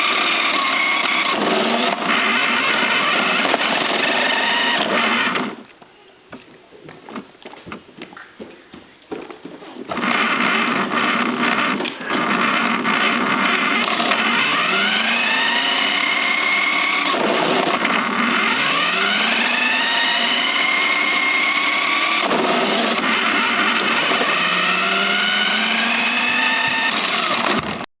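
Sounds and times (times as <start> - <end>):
electric motor whining: 0.0 - 5.6, 9.9 - 27.9.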